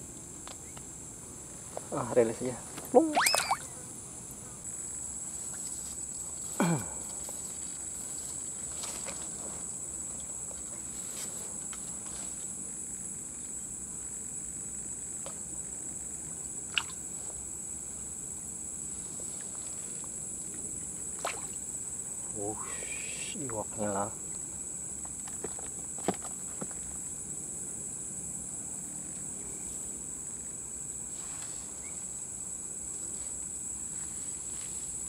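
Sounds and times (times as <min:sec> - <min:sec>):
insects chirring: 0:00.0 - 0:35.0
quiet waterside background: 0:00.0 - 0:35.0.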